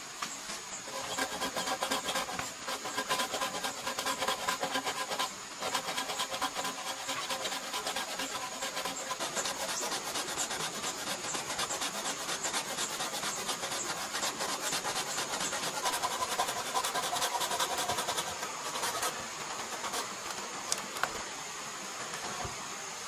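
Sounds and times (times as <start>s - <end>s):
machete scraping bamboo: 0.9s - 21.2s.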